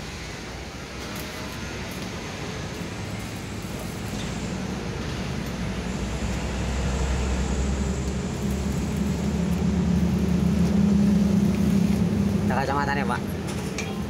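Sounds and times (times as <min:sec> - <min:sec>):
low mechanical rumble: 0:01.5 - 0:14.0.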